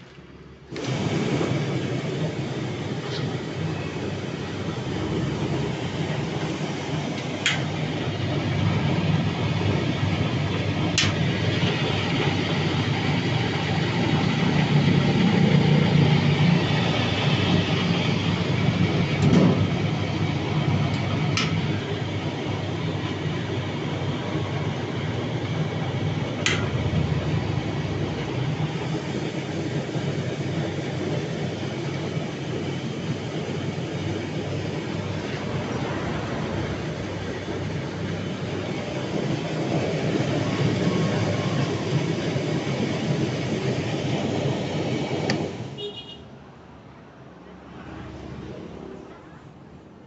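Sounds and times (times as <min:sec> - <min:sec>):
washing machine rumbling: 0:00.0 - 0:46.2.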